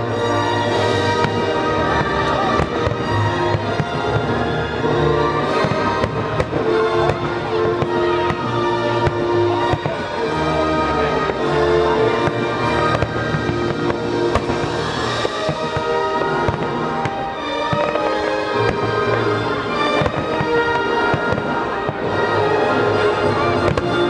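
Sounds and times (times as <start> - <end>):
fireworks bursting and crackling: 0.0 - 24.0
music with sustained notes: 0.0 - 24.0.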